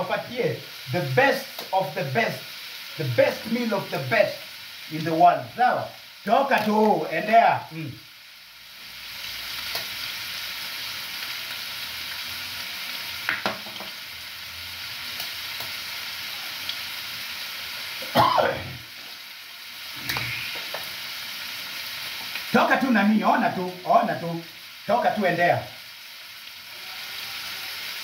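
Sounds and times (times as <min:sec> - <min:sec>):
meat sizzling in a pan: 0:00.0 - 0:28.0.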